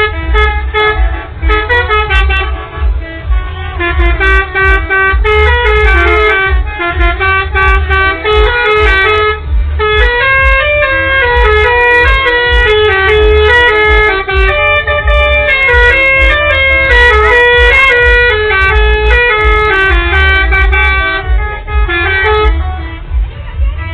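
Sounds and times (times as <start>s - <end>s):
air horns playing a fast tune: 0.0s - 23.9s
low steady rumble: 0.0s - 23.9s.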